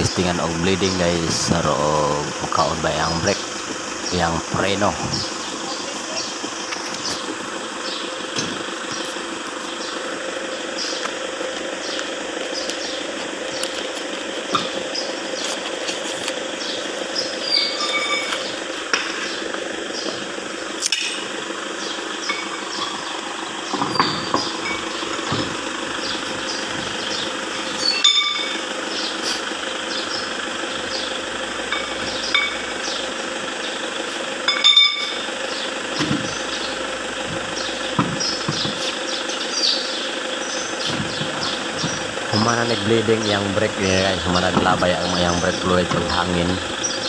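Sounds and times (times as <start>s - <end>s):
steady motor hum: 0.0s - 47.0s.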